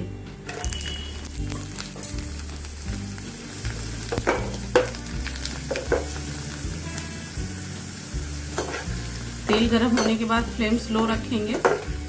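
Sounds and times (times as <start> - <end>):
slices sizzling in hot oil: 0.5 - 12.0.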